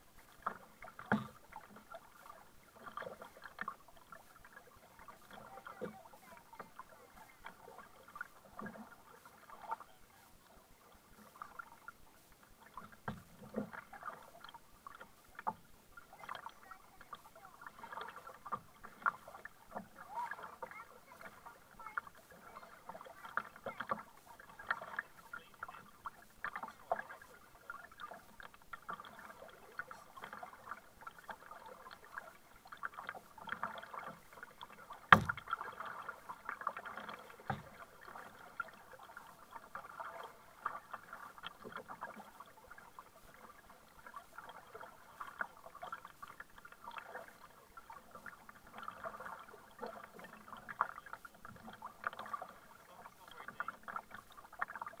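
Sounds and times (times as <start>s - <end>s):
paddle blades splashing: 0.0s - 55.0s
water lapping against hull: 0.0s - 55.0s.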